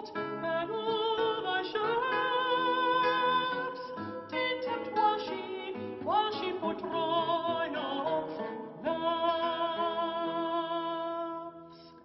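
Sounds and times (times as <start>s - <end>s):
classical guitar plucking: 0.0s - 12.0s
soprano singing: 0.0s - 12.0s.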